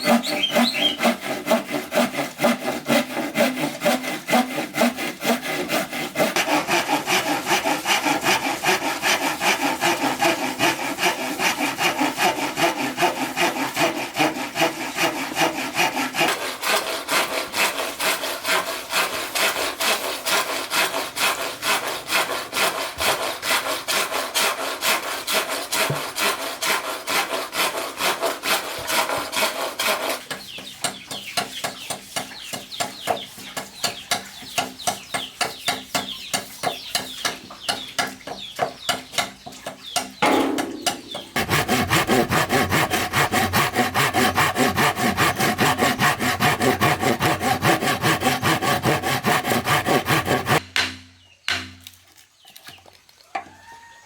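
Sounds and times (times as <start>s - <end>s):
hand saw cutting bamboo: 0.0s - 52.0s.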